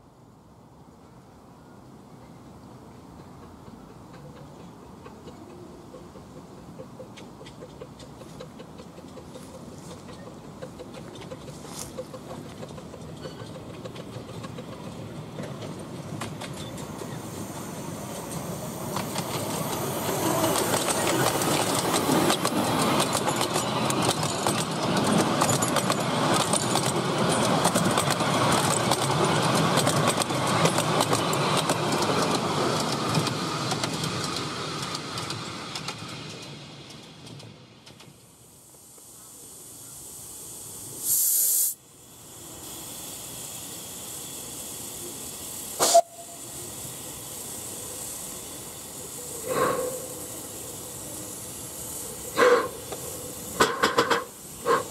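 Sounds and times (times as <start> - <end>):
miniature steam train passing: 0.0 - 54.9
wheels clicking over track: 3.2 - 39.1, 45.1 - 54.9.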